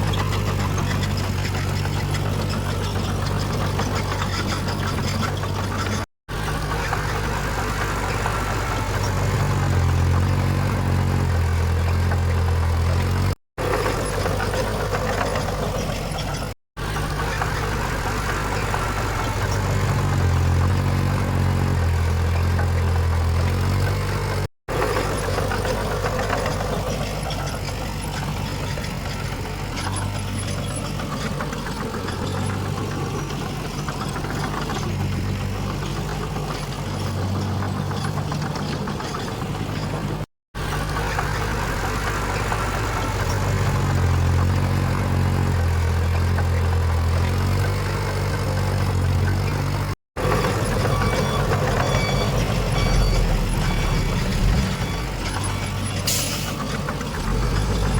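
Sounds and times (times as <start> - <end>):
diesel machinery engine hum: 0.0 - 57.9.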